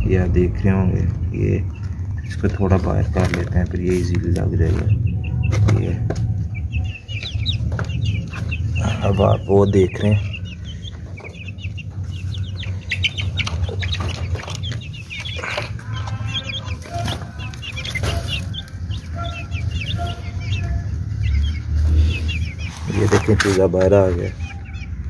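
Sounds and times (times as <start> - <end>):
chickens peeping and calling: 0.0 - 25.0.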